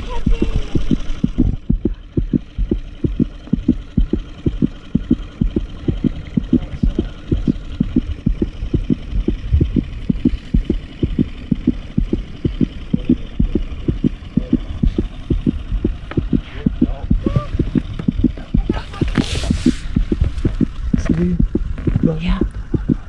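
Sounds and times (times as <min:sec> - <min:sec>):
outboard motor idling: 0:00.0 - 0:23.0.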